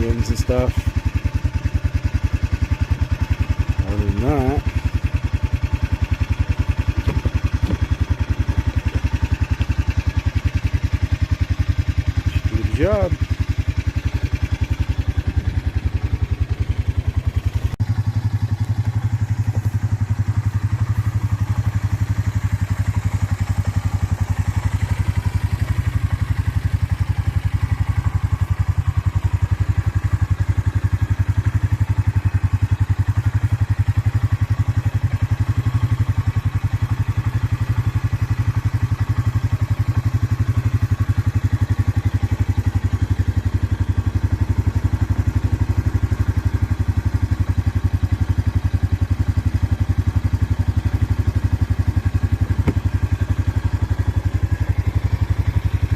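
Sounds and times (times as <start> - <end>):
motorbike engine idling: 0.0 - 55.9.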